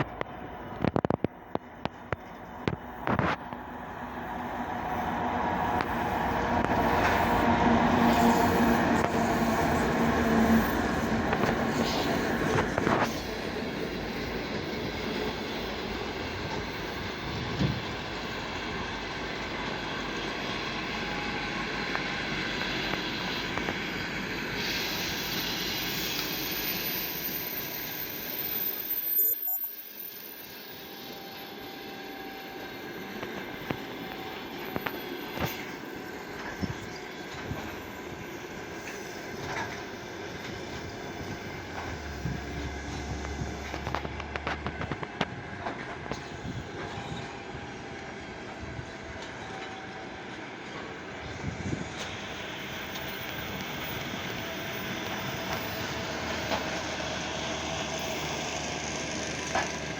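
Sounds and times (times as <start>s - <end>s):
diesel locomotive engine: 0.0s - 59.9s
train coaches rolling: 0.0s - 59.9s.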